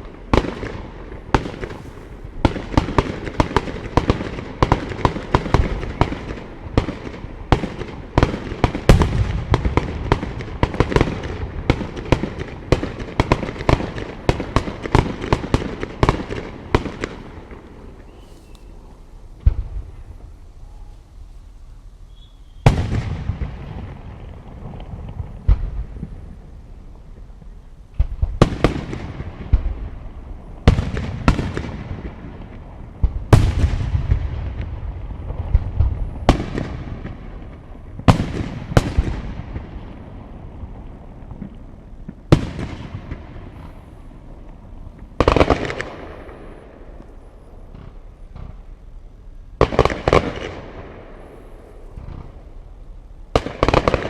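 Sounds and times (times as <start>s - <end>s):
fireworks bangs with rolling echo: 0.0s - 21.0s, 22.1s - 54.0s.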